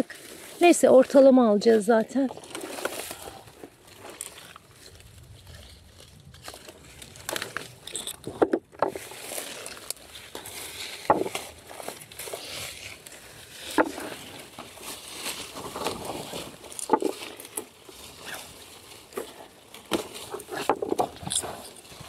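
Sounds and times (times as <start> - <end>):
bushes rustling: 0.0 - 22.0.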